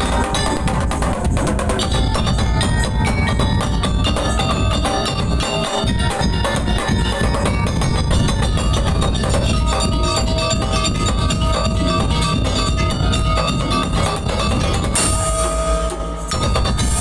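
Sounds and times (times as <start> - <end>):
dense drumming: 0.0 - 17.0
tuned mallet percussion melody: 0.0 - 17.0.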